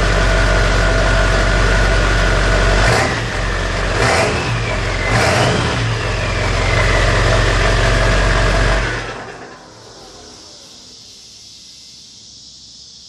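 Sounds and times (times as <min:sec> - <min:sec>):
truck engine revving: 0:00.0 - 0:10.8.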